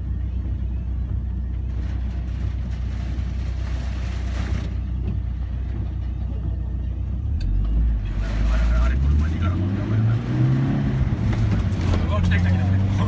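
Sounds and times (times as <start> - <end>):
car road rumble inside cabin: 0.0 - 13.0.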